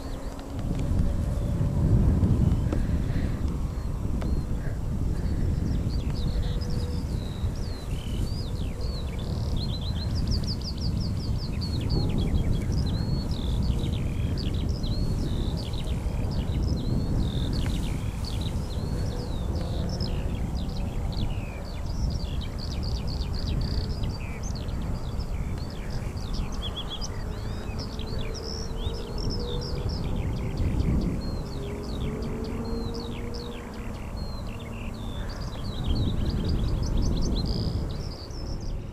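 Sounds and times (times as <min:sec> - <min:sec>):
many birds chirping: 0:00.0 - 0:38.9
steady low rumble: 0:00.0 - 0:38.9.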